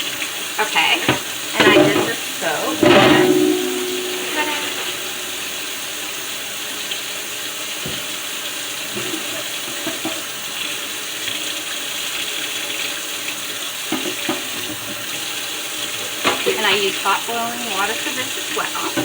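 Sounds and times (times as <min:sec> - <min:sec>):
tap running into sink: 0:00.1 - 0:05.6, 0:07.7 - 0:19.0.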